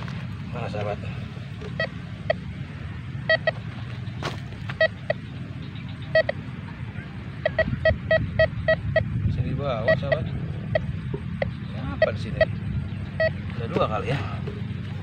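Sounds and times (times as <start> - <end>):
metal detector beeps: 0.6 - 15.0.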